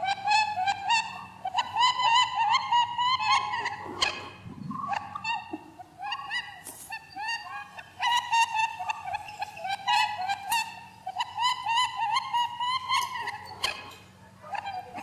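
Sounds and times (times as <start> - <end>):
high squeaking calls: 0.0 - 15.0.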